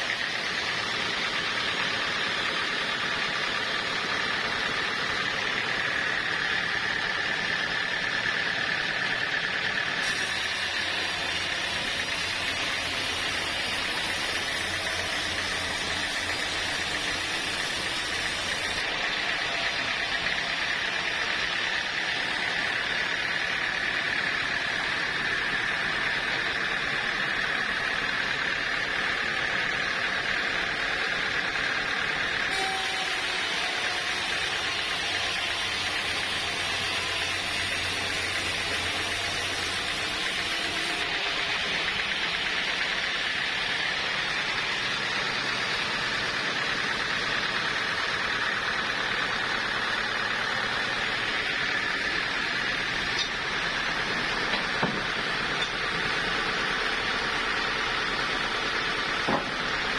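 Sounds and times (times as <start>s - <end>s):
sawmill saw whining: 0.0s - 59.9s.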